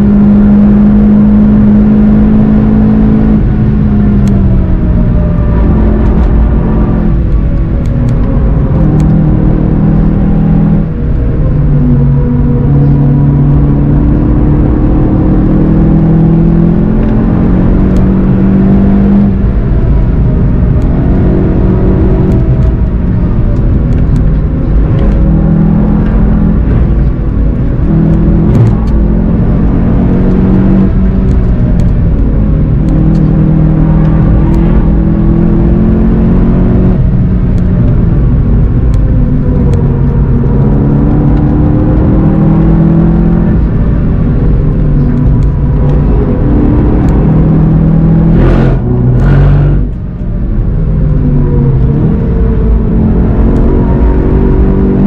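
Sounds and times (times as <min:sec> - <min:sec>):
car engine revving: 0:00.0 - 0:55.0
road and wind noise: 0:00.0 - 0:55.0.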